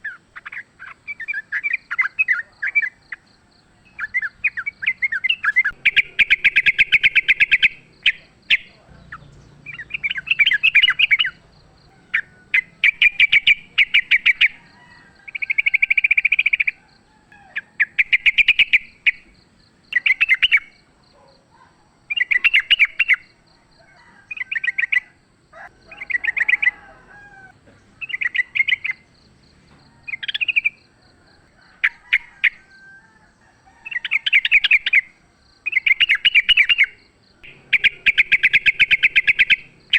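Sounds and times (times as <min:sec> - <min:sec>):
bulbuls chattering: 0:00.0 - 0:32.6, 0:33.8 - 0:39.9.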